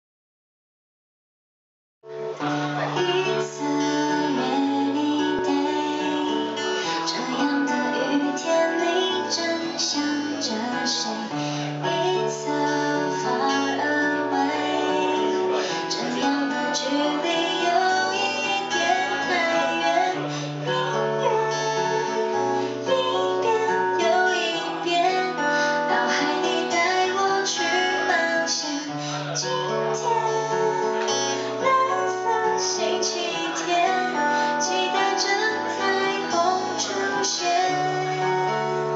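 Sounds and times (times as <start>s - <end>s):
acoustic guitar strumming: 2.1s - 38.9s
woman singing: 2.4s - 38.9s.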